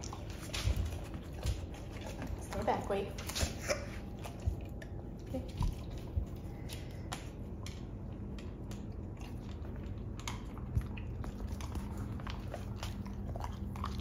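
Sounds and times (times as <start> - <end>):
dog chewing a crispy treat: 0.0 - 14.0.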